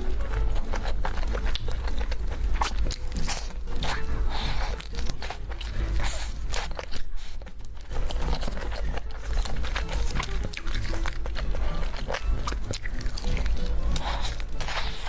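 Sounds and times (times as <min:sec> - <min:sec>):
crunchy biting and chewing: 0:00.0 - 0:15.0.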